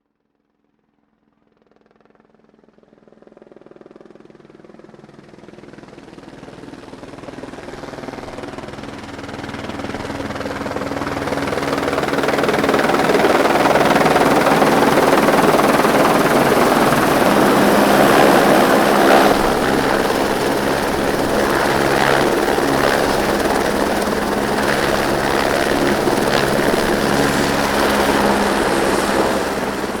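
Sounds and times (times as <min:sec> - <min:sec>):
helicopter rotor drone: 0:01.1 - 0:30.0.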